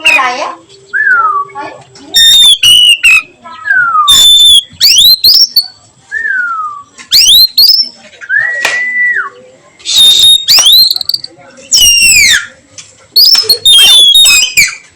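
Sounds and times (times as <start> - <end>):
bird singing whistled phrases: 0.9 - 12.6, 13.2 - 14.8.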